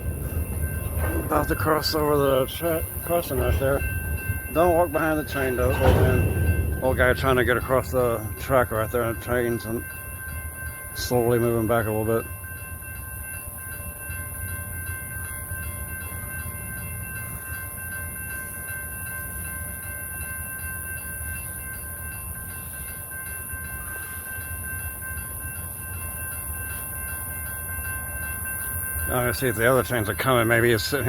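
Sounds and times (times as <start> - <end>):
diesel locomotives rumbling: 0.0 - 31.0.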